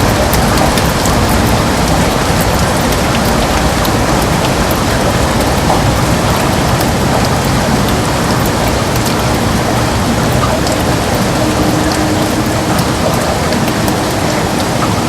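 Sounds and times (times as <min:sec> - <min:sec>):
deep rumble: 0:00.0 - 0:15.0
heavy rain hissing: 0:00.0 - 0:15.0
raindrops ticking on glass: 0:00.0 - 0:15.0.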